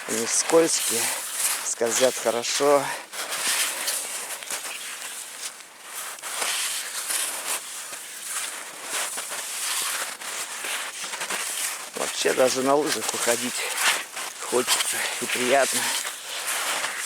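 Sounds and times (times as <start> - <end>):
skis swishing through snow: 0.0 - 17.0.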